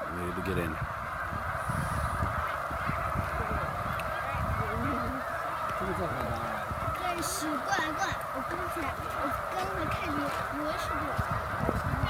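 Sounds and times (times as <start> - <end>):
flock of geese honking: 0.0 - 12.0.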